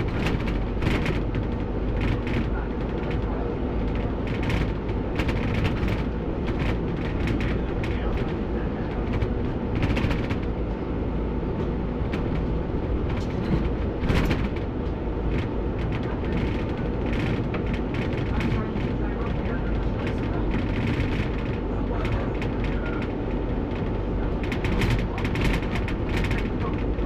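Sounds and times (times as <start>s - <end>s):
knocks and rattles: 0.0s - 10.6s, 11.5s - 27.0s
bus engine and road rumble: 0.0s - 27.0s.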